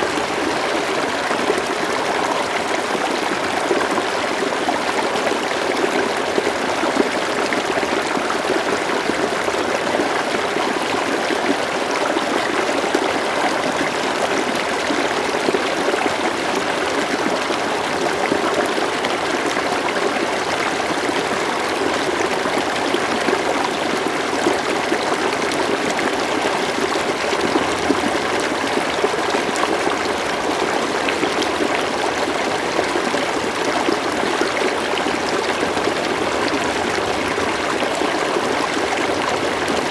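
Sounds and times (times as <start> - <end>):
river water flowing: 0.0 - 39.9
water trickling and babbling: 0.0 - 39.9.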